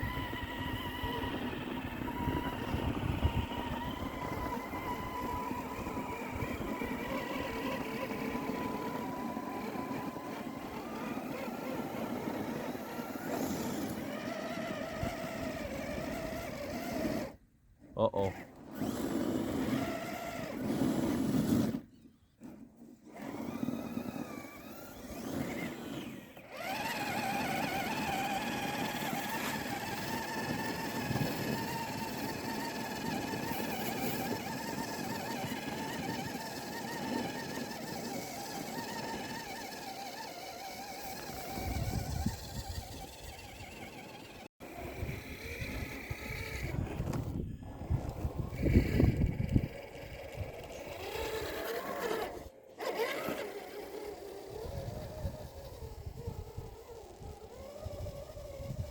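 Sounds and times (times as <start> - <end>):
small electric motor whining: 0.0 - 58.9.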